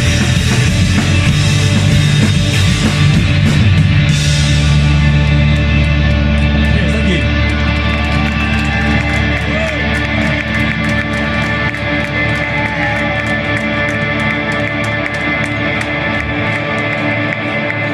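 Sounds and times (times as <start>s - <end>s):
distorted electric guitar chord: 0.0s - 17.9s.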